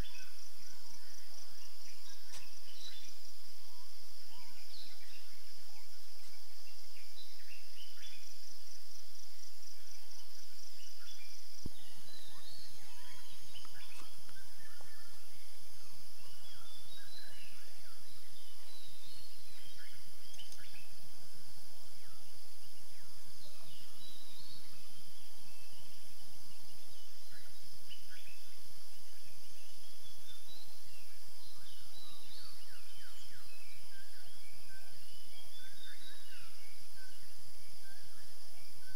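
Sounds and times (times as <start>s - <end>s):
birds chirping and whistling: 0.0s - 8.5s, 10.2s - 21.0s, 22.0s - 38.9s.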